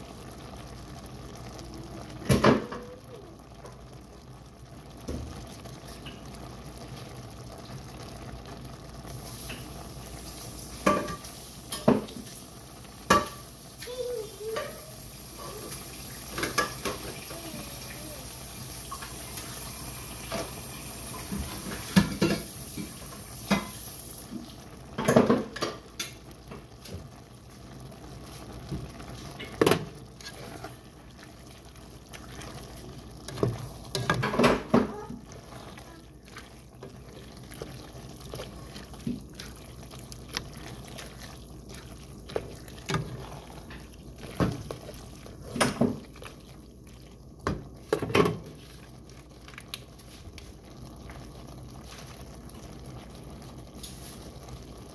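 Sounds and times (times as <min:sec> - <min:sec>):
sauce bubbling: 0:00.0 - 0:54.9.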